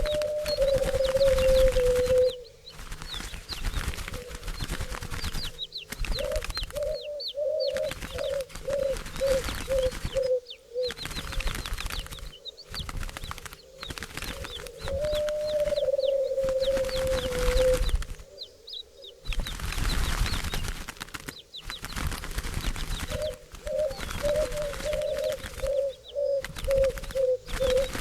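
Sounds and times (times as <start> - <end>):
doves cooing: 0.0 - 21.0, 22.0 - 28.0
small birds chirping: 0.0 - 28.0
wings fluttering: 0.0 - 28.0.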